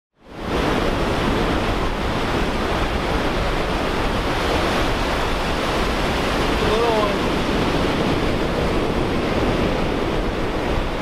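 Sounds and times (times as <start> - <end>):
ocean surf breaking: 0.2 - 11.0
wind rumbling on microphone: 0.2 - 11.0.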